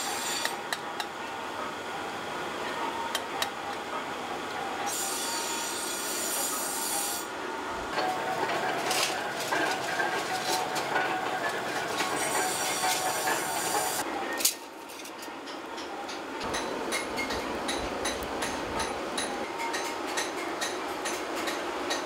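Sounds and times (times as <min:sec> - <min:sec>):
workshop machinery running: 0:00.0 - 0:22.0.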